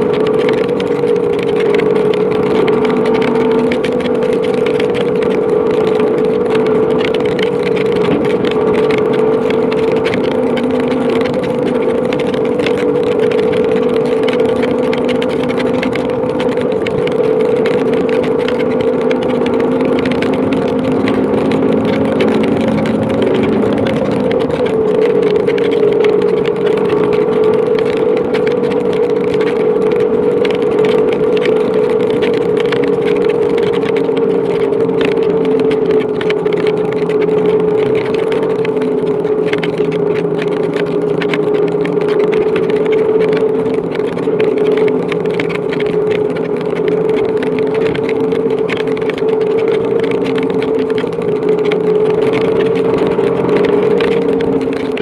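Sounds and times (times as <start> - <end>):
motorcycle engine running: 0.0 - 55.0
wind: 0.0 - 55.0.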